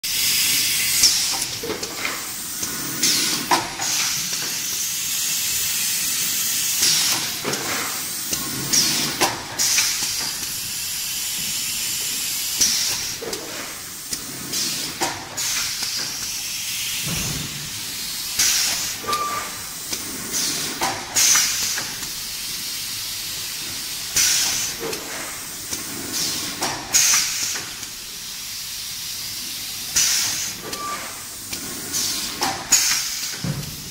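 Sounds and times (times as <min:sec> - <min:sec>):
compressed air hiss: 0:00.1 - 0:33.9.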